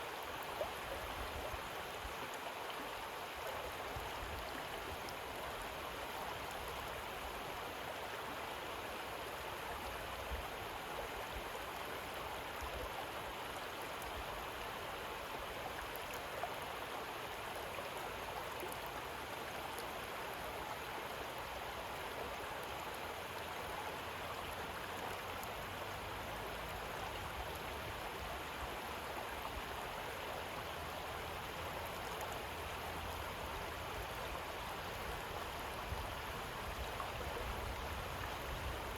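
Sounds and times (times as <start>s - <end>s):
river water flowing over pebbles: 0.0s - 38.9s.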